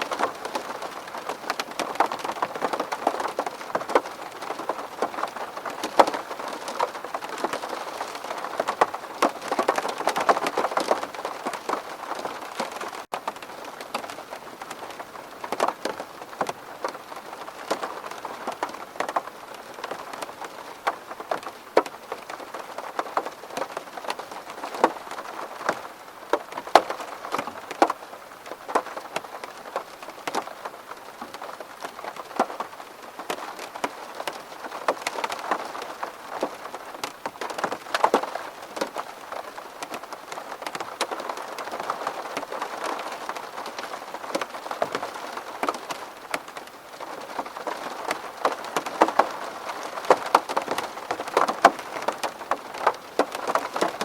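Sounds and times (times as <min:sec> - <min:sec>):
rain drops hitting window glass: 0:00.0 - 0:54.0.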